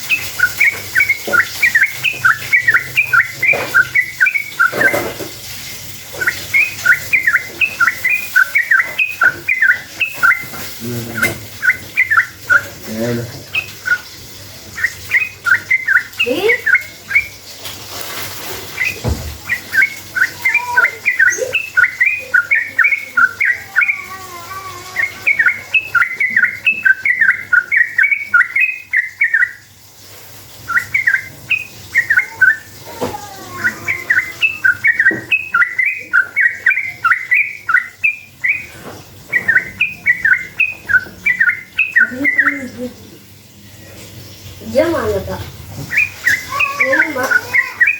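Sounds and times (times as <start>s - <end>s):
bird chattering song: 0.0s - 17.6s, 18.4s - 29.9s, 30.5s - 43.9s, 44.6s - 47.9s.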